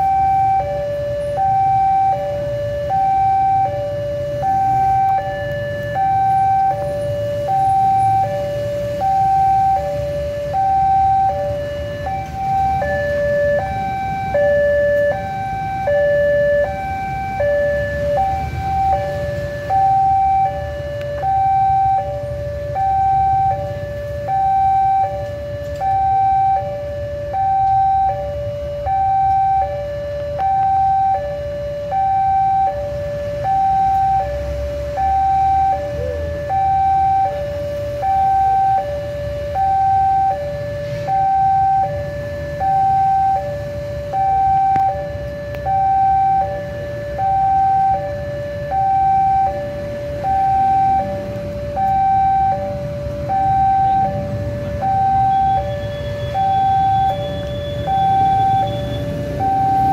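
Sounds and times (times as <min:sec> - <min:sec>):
low rumble of road traffic: 0:00.0 - 0:59.9
two-tone level-crossing alarm: 0:00.0 - 0:59.9.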